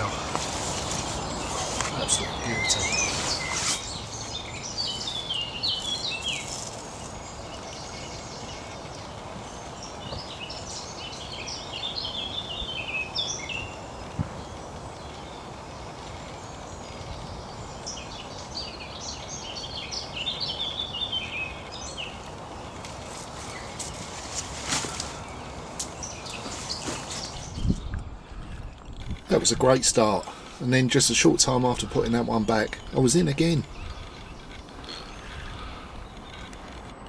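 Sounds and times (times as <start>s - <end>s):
background hiss: 0.0s - 37.0s
songbirds singing: 0.0s - 37.0s.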